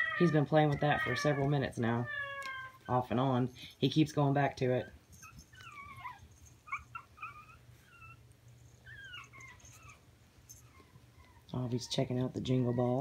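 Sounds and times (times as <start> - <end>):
puppy whimpering: 0.0 - 3.2, 4.7 - 13.0.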